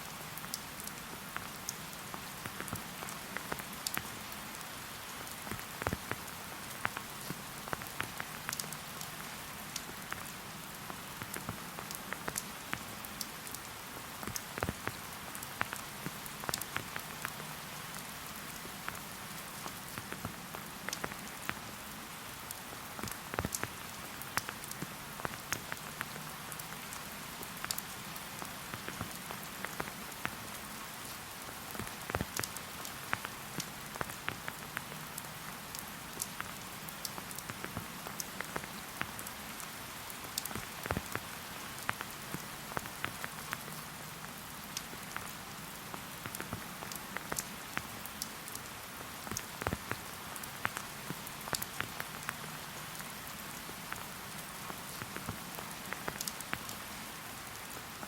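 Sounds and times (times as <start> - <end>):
steady rain hiss: 0.0 - 58.0
raindrops tapping close by: 0.1 - 58.0.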